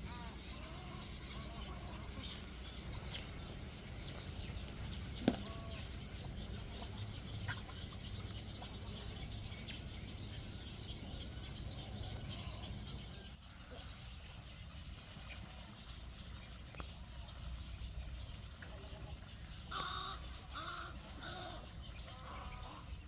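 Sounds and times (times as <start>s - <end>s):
wading birds calling: 0.0s - 15.8s, 17.1s - 23.0s.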